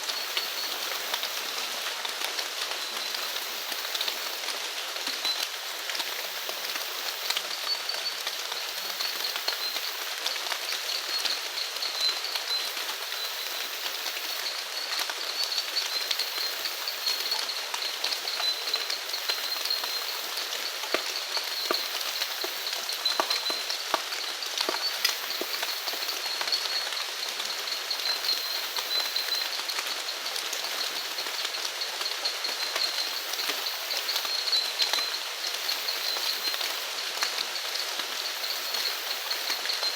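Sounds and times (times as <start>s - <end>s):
steady rain: 0.0s - 39.9s
raindrops ticking: 0.1s - 39.9s.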